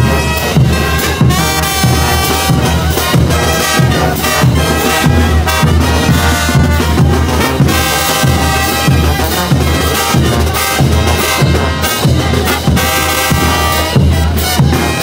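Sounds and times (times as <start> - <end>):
bass drum: 0.0 - 15.0
street brass band playing: 0.0 - 15.0
trumpets and trombones melody: 0.0 - 15.0.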